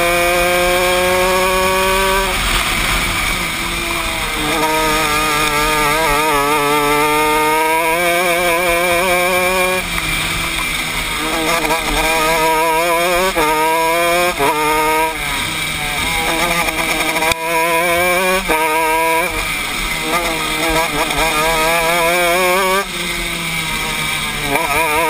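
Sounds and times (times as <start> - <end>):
kart engine revving: 0.0 - 25.0.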